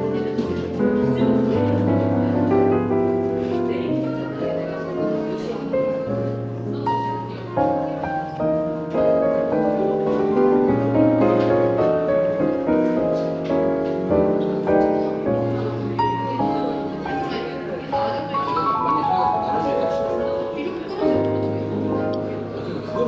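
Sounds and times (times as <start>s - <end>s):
smooth jazz piano: 0.0s - 23.0s.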